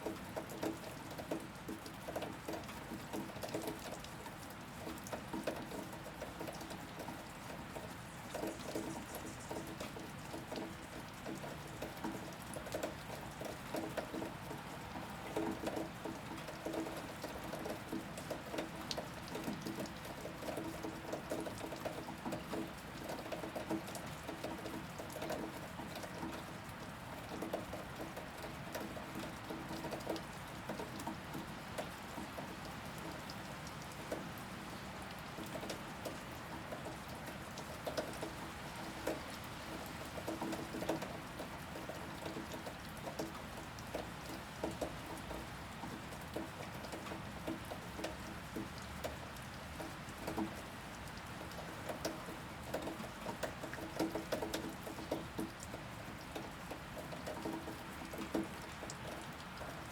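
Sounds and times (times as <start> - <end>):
rain drops striking a surface: 0.0 - 59.9.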